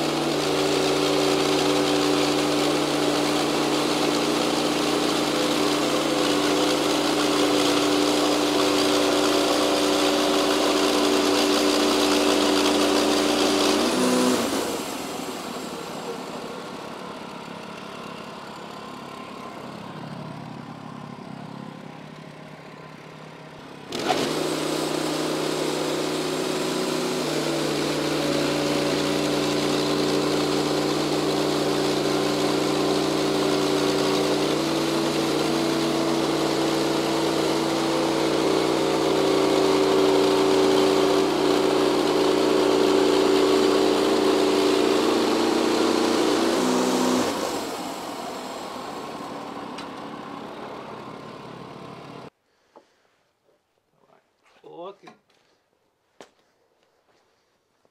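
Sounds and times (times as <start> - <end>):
sawmill engine running under load: 0.0 - 52.3.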